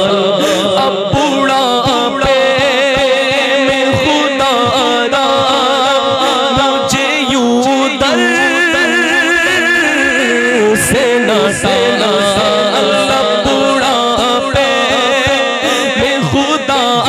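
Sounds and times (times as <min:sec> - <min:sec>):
man singing: 0:00.0 - 0:17.0
low beat thuds: 0:01.0 - 0:15.4.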